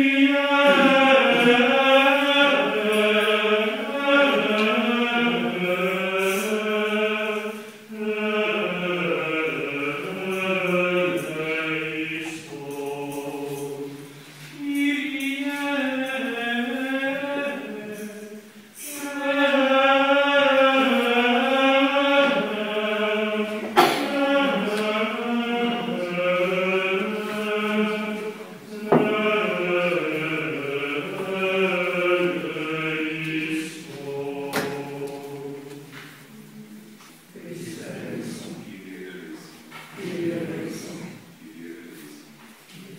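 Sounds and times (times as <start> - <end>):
choir chanting: 0.0 - 42.9.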